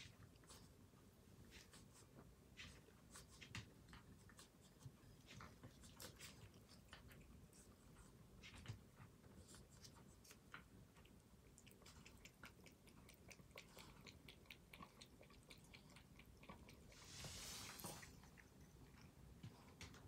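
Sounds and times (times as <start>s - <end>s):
cat chewing crunches: 0.0s - 20.0s.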